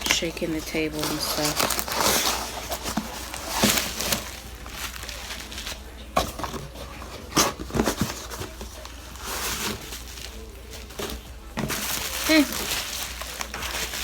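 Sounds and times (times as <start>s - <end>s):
packaging rustling and scraping: 0.0s - 14.0s.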